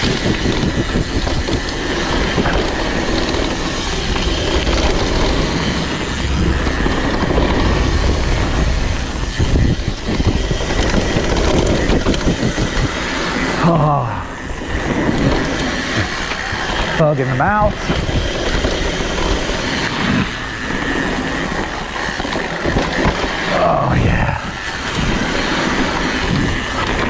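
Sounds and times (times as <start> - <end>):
bike chain and frame rattling: 0.0 - 27.0
bike tyres rolling through mud: 0.0 - 27.0.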